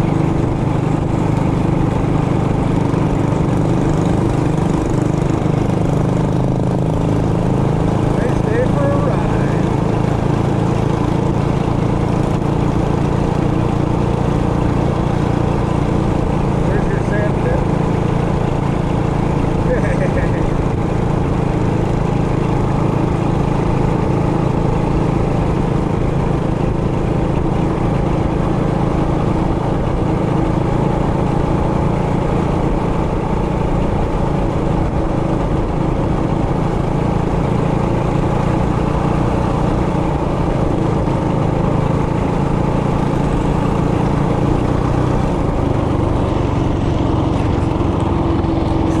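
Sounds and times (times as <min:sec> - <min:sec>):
mini bike engine running: 0:00.0 - 0:49.0.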